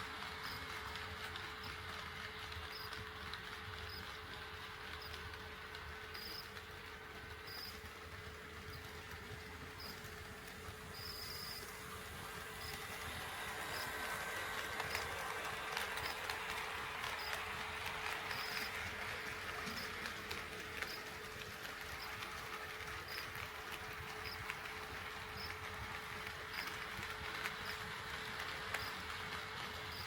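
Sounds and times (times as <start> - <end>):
model train motor hum: 0.0 - 30.0.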